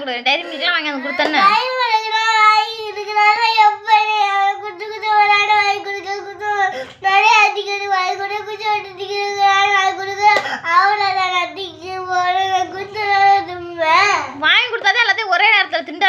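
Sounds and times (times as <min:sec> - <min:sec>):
child crying: 0:00.4 - 0:14.4.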